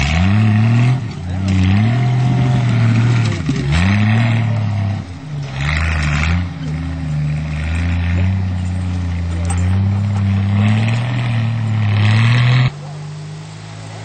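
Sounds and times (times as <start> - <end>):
off-road vehicle engine straining: 0.0 - 14.0
tyres throwing dirt hiss: 0.0 - 14.0.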